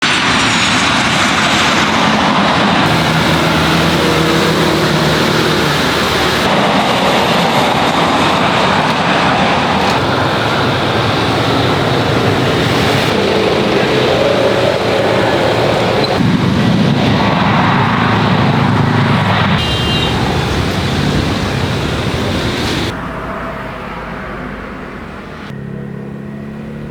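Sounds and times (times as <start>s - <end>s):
jet engines running: 0.0s - 25.6s.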